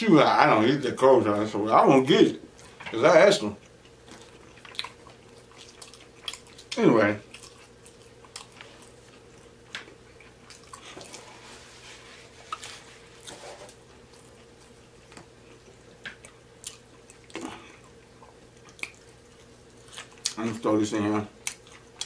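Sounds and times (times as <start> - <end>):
faint steady hum: 0.0 - 22.0
soft chewing and lip-smacking: 2.4 - 2.9, 3.6 - 20.6, 21.3 - 22.0.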